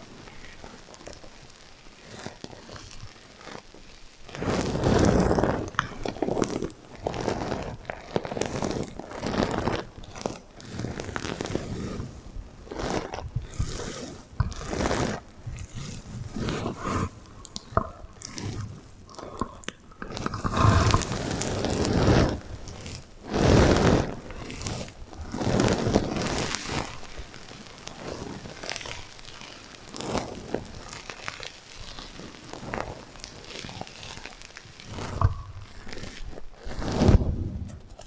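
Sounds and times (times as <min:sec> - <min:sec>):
sequins being brushed: 0:00.5 - 0:37.3.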